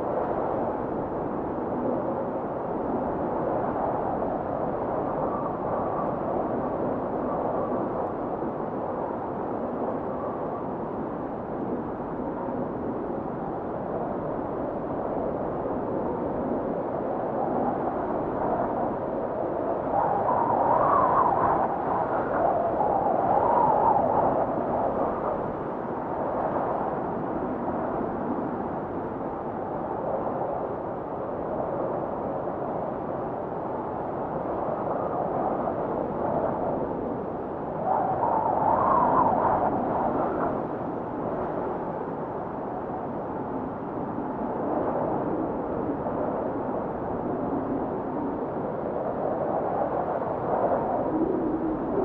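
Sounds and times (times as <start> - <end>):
faint wavering wind whistle: 0.0 - 52.0.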